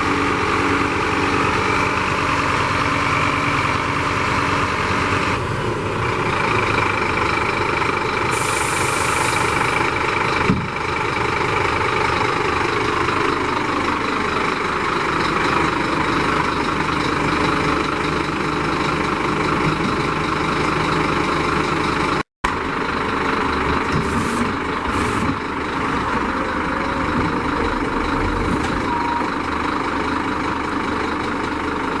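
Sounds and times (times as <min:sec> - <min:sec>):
diesel truck engine idling: 0:00.0 - 0:32.0.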